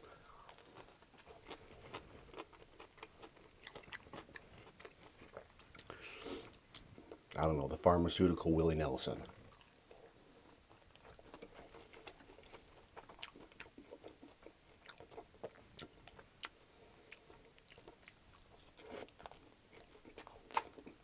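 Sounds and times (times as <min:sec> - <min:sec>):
chewing crusty bread: 0:00.0 - 0:07.5, 0:09.2 - 0:21.0.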